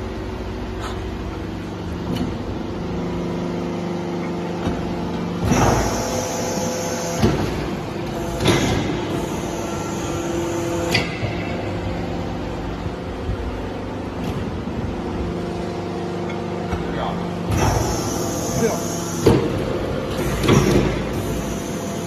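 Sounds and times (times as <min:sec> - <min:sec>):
hydraulic power unit hum: 0:00.0 - 0:22.0.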